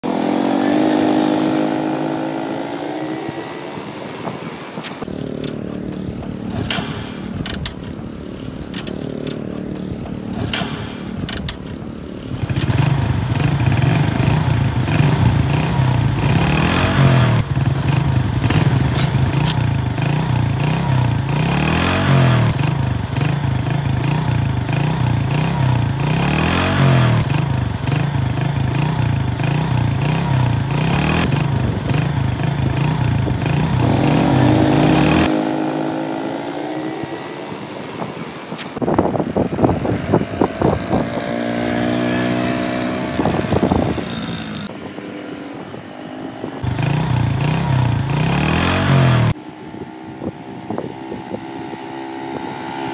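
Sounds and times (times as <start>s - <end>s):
motorcycle engine revving: 0.0s - 49.5s.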